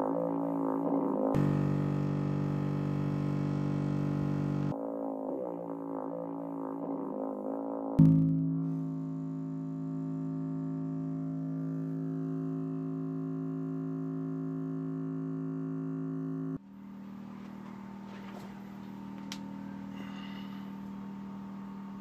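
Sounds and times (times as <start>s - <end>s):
metal pail resonator droning: 0.0s - 22.0s.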